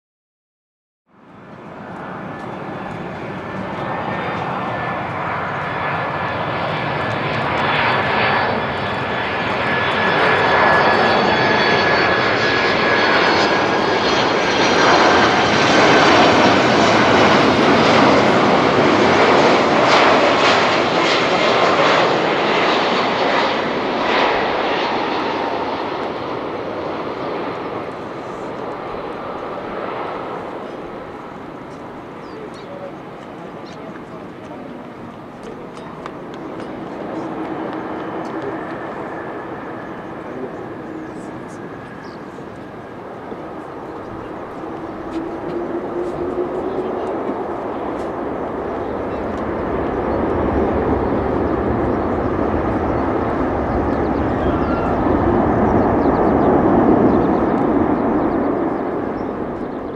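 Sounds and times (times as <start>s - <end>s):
jet engines whining: 1.2s - 59.9s.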